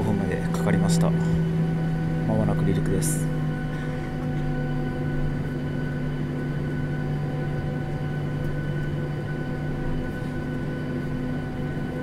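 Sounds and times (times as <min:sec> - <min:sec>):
airliner cabin engine hum: 0:00.0 - 0:12.0.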